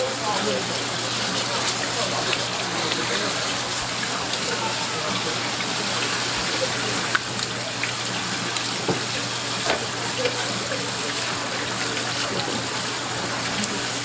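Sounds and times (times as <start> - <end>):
faucet spray splashing: 0.0 - 14.0
small knocks and splashes: 1.2 - 12.8.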